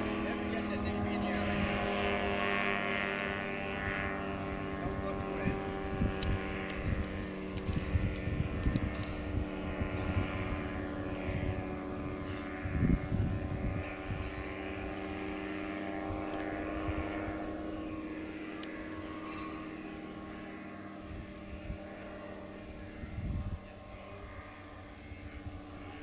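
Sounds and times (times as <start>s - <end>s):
ultralight aircraft engine droning: 0.0s - 26.0s.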